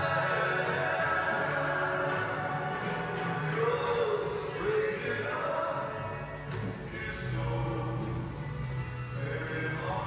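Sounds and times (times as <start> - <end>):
slow background music: 0.0 - 10.0.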